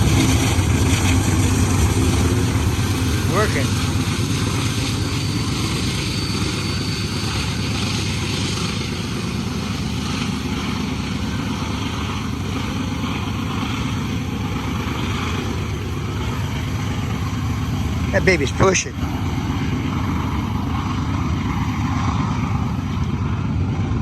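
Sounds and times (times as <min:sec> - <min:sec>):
diesel locomotive rumble: 0:00.0 - 0:24.0.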